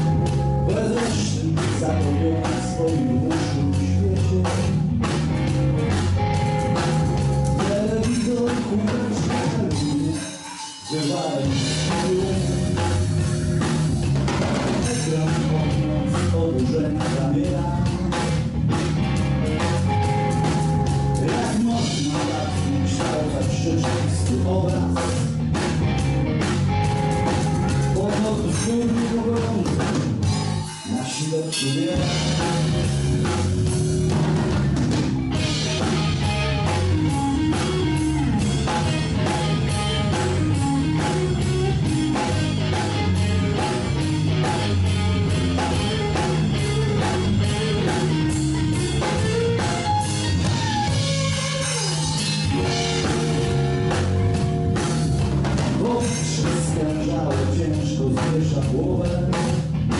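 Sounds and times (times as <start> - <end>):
blues-rock band playing: 0.0 - 59.9.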